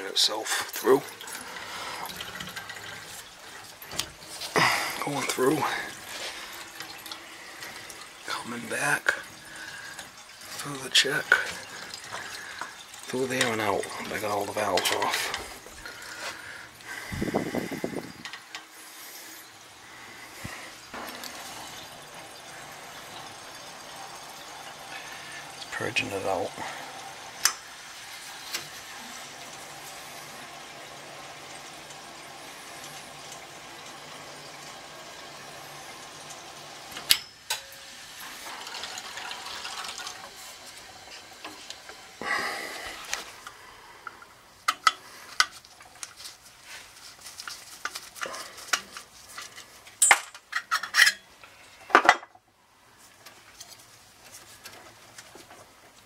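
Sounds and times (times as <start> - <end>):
water hissing through pipes: 0.0 - 52.0.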